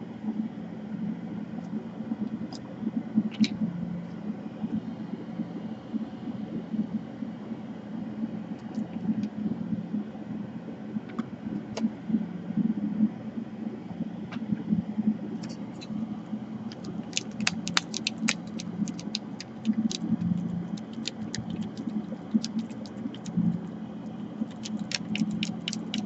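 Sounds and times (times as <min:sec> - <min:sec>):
low rumbling background noise: 0:00.0 - 0:26.0.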